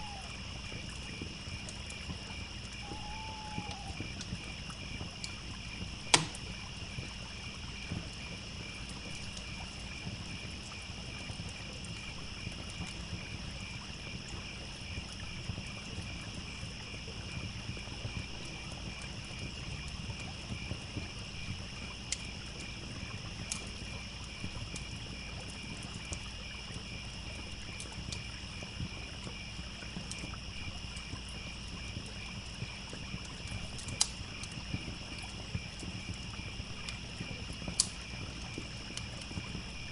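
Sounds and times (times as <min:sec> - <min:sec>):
campfire pops and crackles: 0:00.0 - 0:39.9
crickets chirping: 0:00.0 - 0:39.9
trickling stream: 0:00.0 - 0:39.9.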